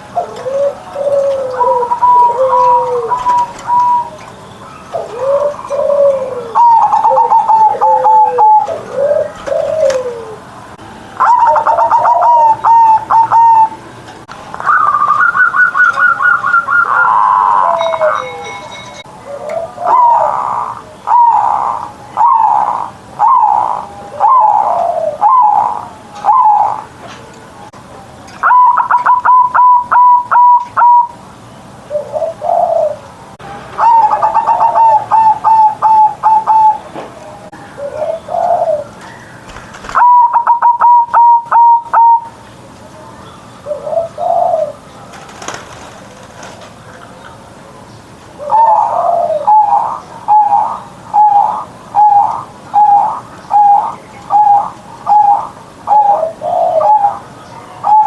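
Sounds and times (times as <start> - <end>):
dove cooing staccato: 0.0 - 4.3, 4.9 - 10.5, 11.2 - 13.8, 14.6 - 18.6, 19.3 - 26.9, 28.4 - 31.2, 31.9 - 33.0, 33.8 - 37.0, 37.8 - 42.4, 43.7 - 46.7, 48.4 - 58.0.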